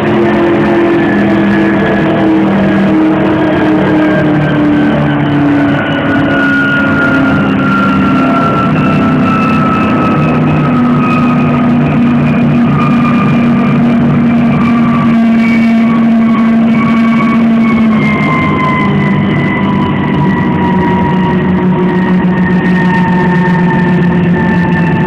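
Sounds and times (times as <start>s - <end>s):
low drone: 0.0s - 25.0s
vehicle high whine: 0.0s - 25.0s.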